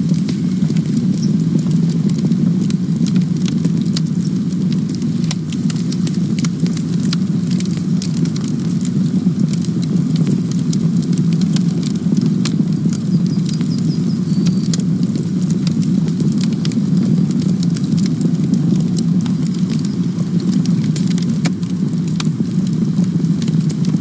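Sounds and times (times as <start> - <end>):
campfire rumble: 0.0 - 24.0
wood crackling and popping: 0.0 - 24.0.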